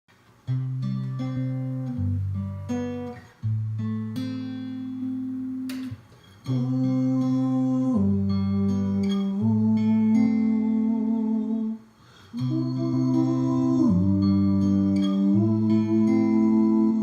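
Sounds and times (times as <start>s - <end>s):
acoustic guitar chords: 0.3s - 17.0s.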